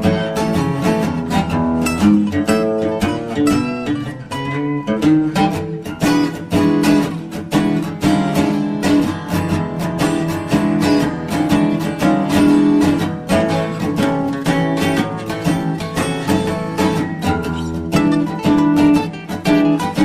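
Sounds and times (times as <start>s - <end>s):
acoustic guitar plucking: 0.0s - 20.0s.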